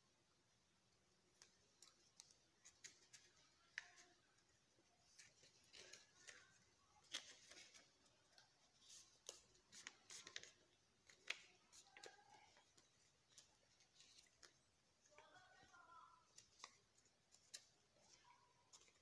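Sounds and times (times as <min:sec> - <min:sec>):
paper crackling and rustling: 0:01.3 - 0:19.0.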